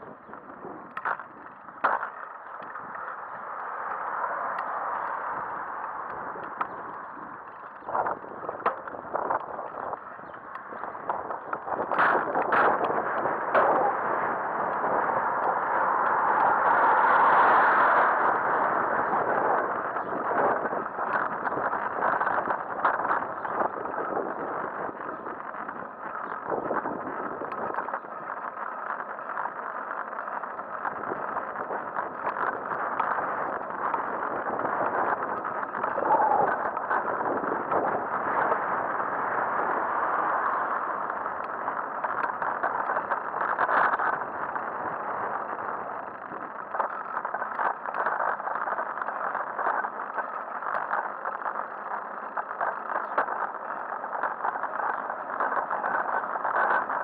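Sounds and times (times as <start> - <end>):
bicycle tyres on asphalt: 0.0 - 57.0
wind on microphone: 0.0 - 57.0.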